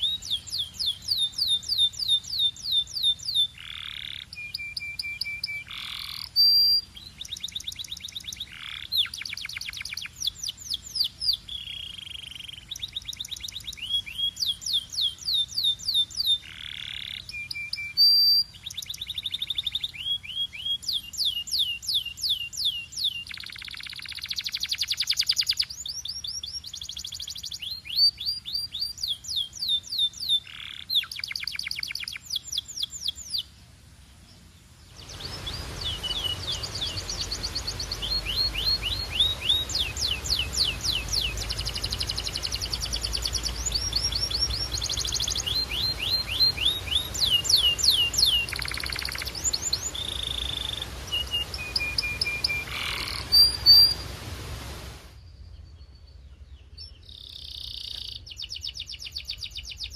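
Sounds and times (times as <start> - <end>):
canary singing trills: 0.0 - 33.5, 35.0 - 54.2, 55.8 - 59.9
faint background hiss: 0.0 - 59.9.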